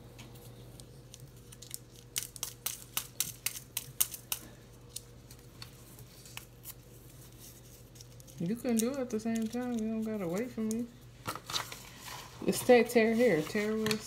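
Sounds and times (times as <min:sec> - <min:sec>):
faint steady hum: 0:00.0 - 0:14.0
paper packets crinkling: 0:00.7 - 0:14.0.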